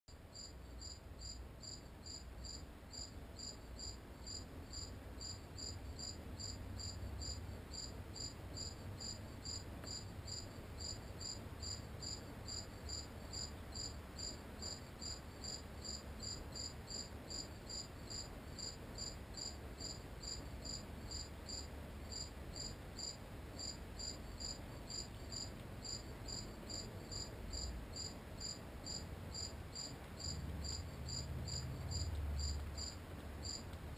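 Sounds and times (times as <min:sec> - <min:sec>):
cricket chirping: 0:00.1 - 0:33.9
faint low rumble: 0:00.2 - 0:33.9.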